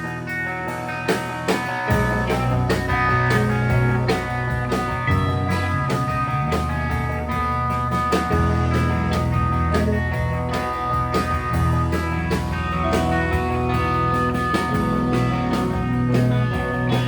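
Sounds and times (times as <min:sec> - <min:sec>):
bass guitar: 0:00.0 - 0:17.0
drums playing steady beat: 0:00.0 - 0:17.0
electric guitar: 0:00.0 - 0:17.0.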